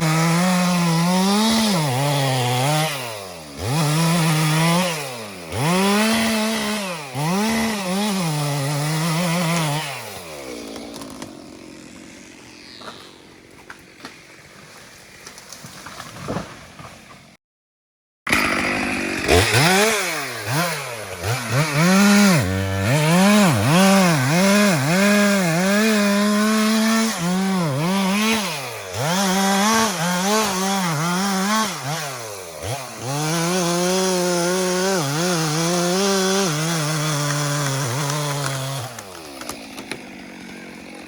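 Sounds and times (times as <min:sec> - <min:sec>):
chainsaw engine revving: 0:00.0 - 0:14.0, 0:18.3 - 0:41.0.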